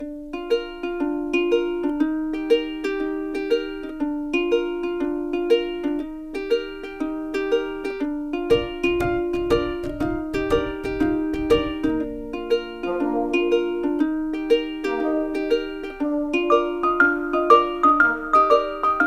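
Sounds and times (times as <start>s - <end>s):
gentle plucked-string melody: 0.0s - 19.0s.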